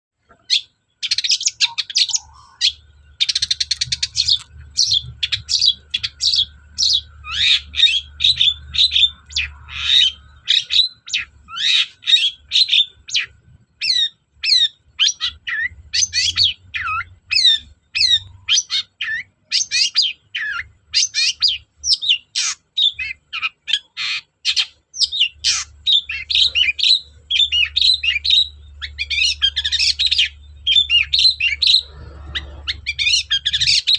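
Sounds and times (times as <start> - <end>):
bird song with chirps and trills: 0.2 - 33.9.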